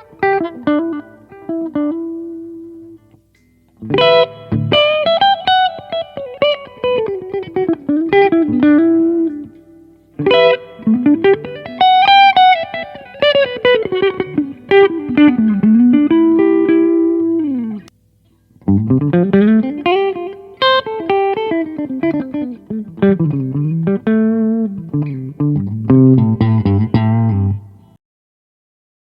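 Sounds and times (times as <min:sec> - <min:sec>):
electric guitar melodic lines: 0:00.0 - 0:17.9, 0:18.5 - 0:28.0.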